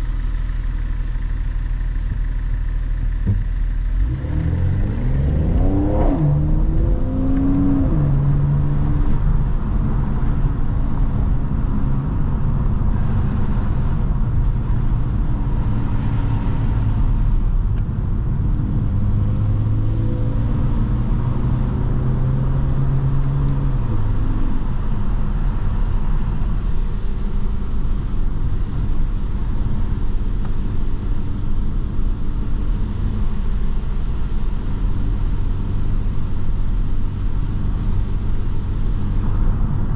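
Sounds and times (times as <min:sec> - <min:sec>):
car engine and exhaust: 0:00.0 - 0:39.9
low road rumble: 0:00.0 - 0:39.9.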